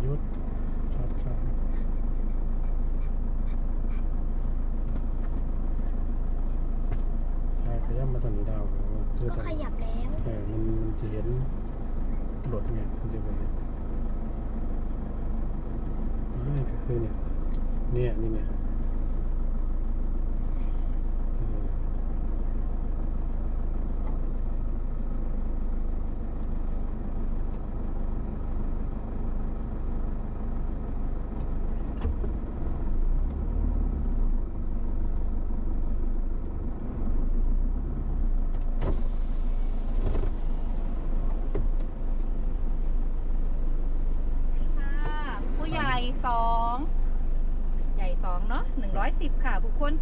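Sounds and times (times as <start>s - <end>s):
car engine hum: 0.0s - 50.0s.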